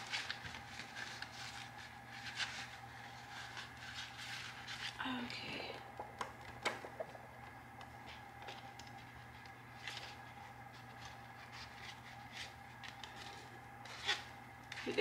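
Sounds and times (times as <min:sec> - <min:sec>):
plastic envelope crinkling: 0:00.0 - 0:15.0
steady low hum: 0:00.0 - 0:15.0.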